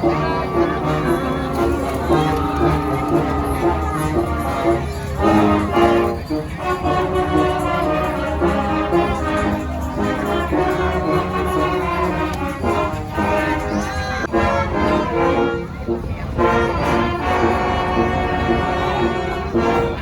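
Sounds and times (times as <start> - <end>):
brass instruments playing: 0.0 - 20.0.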